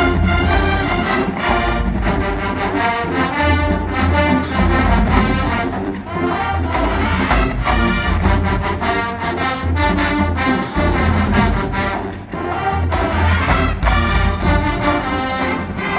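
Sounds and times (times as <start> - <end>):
marching band playing: 0.0 - 15.9.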